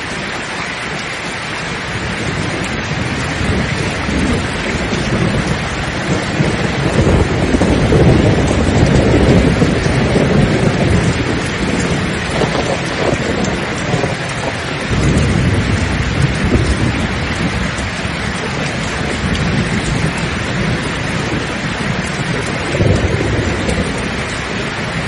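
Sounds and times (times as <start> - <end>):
steady rain: 0.0 - 25.0
thunder rolling: 0.0 - 25.0.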